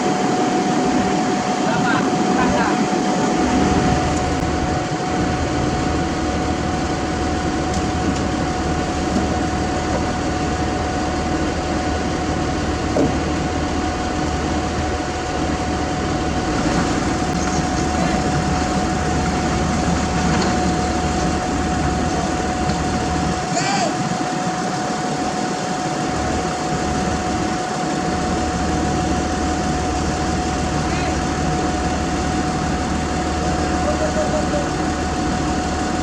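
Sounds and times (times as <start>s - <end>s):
heavy diesel engine running: 0.0s - 36.0s
steady whine: 0.0s - 36.0s.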